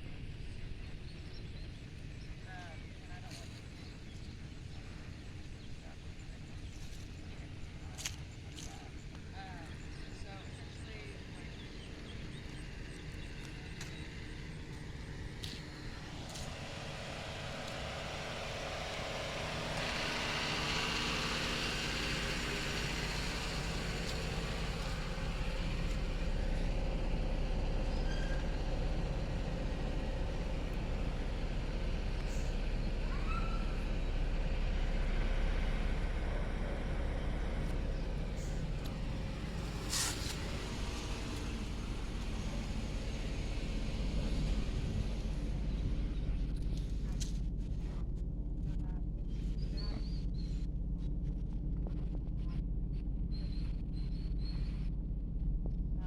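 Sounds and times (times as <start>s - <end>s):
motor vehicle engine rumble: 0.0s - 56.0s
road traffic noise: 1.6s - 50.4s.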